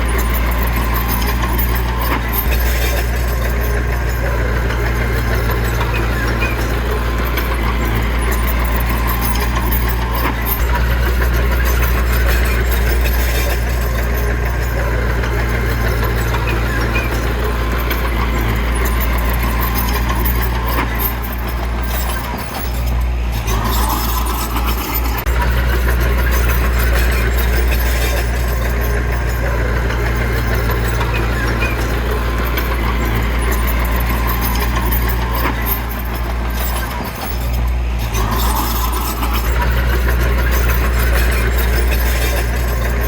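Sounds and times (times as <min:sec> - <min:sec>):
diesel engine droning: 0:00.0 - 0:43.0.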